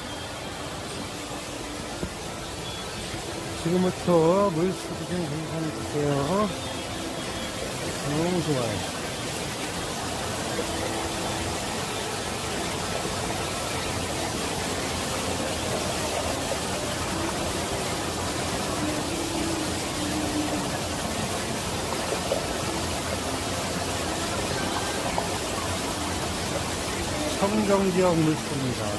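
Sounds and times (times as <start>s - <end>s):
stream flowing over rocks: 0.0s - 28.9s.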